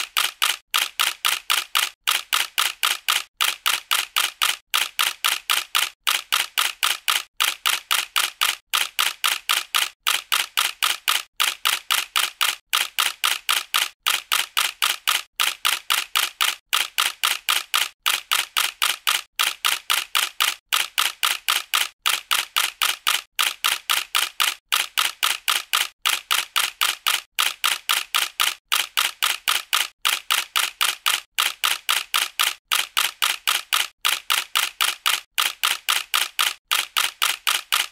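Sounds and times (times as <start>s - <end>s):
camera shutter clicking: 0.0s - 37.9s.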